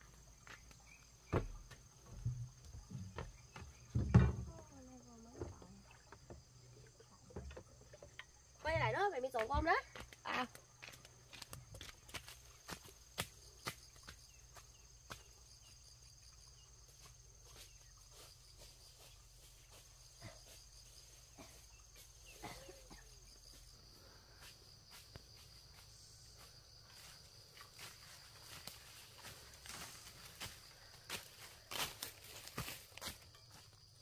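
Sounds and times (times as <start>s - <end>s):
crickets droning: 0.0s - 34.0s.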